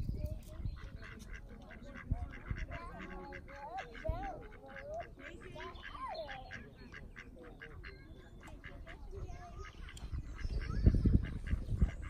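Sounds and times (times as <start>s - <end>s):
ducks quacking: 0.3s - 12.0s.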